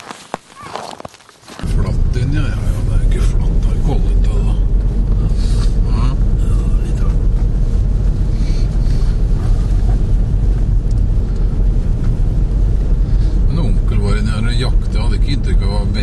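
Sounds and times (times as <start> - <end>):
car engine and tyres on snow: 0.0 - 16.0.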